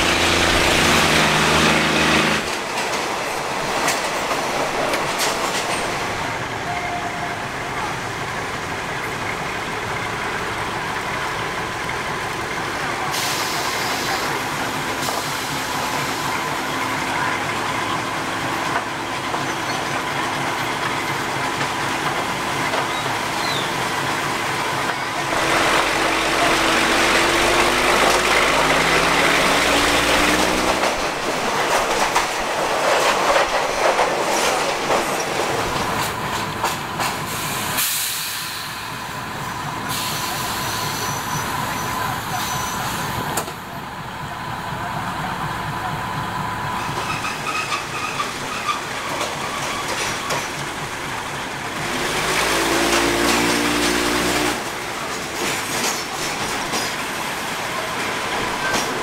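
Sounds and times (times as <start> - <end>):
diesel engine: 0.0 - 2.7, 6.1 - 32.6, 34.7 - 59.0
wheels clacking over rail joints: 0.0 - 6.2, 7.6 - 59.0
railcar wheel and wind noise: 0.0 - 59.0.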